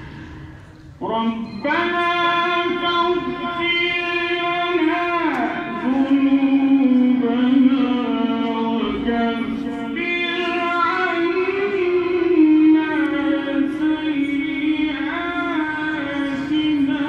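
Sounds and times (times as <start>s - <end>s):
melodic recitation by one voice: 1.0s - 17.0s.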